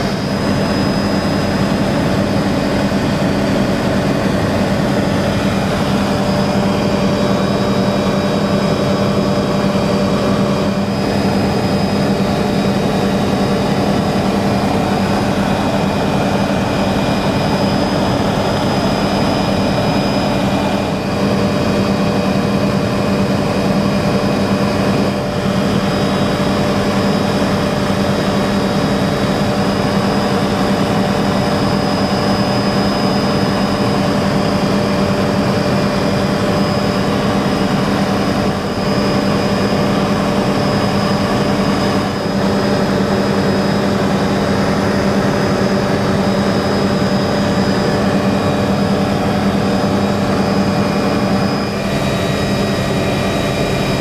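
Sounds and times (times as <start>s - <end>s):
helicopter engine and rotor drone: 0.0s - 54.0s
high-pitched whine: 0.0s - 54.0s.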